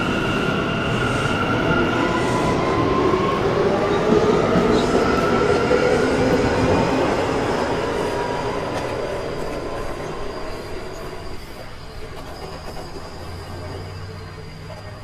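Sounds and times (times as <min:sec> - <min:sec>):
subway train running on rails: 0:00.0 - 0:15.0.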